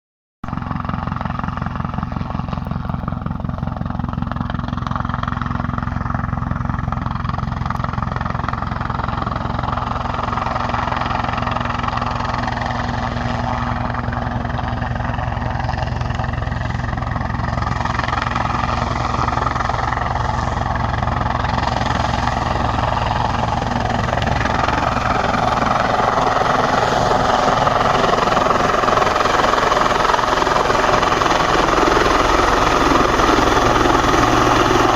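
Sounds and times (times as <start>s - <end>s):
helicopter rotor beating: 0.4s - 34.9s.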